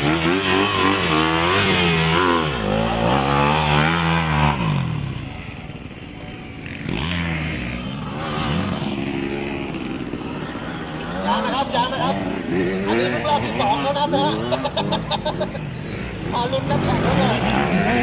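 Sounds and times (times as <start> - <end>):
dirt bike engines revving: 0.0 - 18.0
distant engine noise: 0.0 - 18.0.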